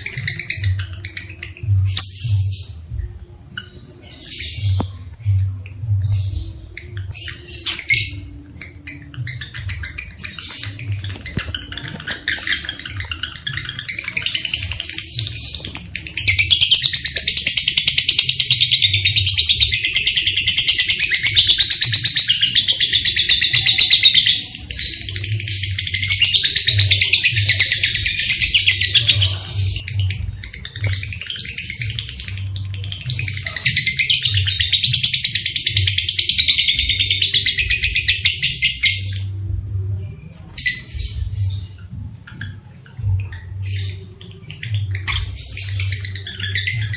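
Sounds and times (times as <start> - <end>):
rapid chattering bird trill: 0.0 - 2.9, 5.7 - 39.4, 40.5 - 46.9
lovebirds chattering: 0.0 - 46.9.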